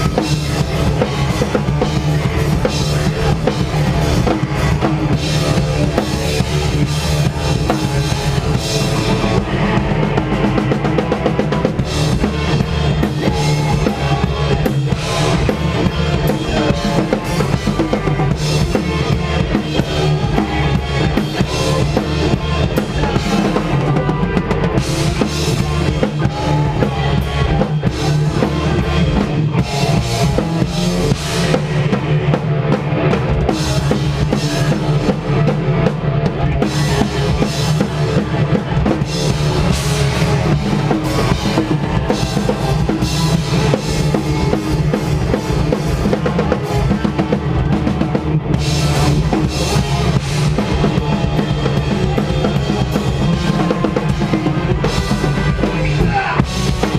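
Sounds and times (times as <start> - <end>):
bass drum and snare: 0.0 - 56.9
loud live band playing: 0.0 - 56.9.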